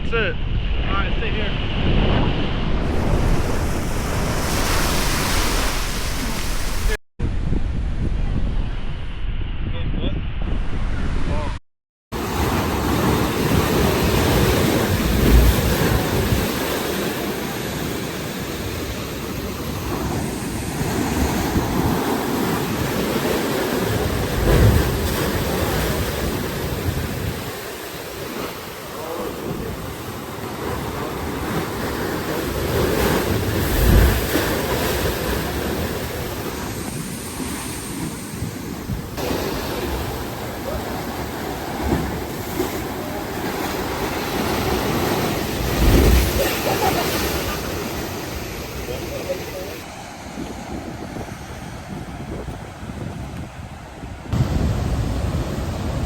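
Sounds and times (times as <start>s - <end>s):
wind buffeting microphone: 0.1s - 11.6s, 12.2s - 28.4s, 29.0s - 56.0s
surf crashing on rocky shore: 2.8s - 7.0s, 12.2s - 52.9s, 54.1s - 56.0s.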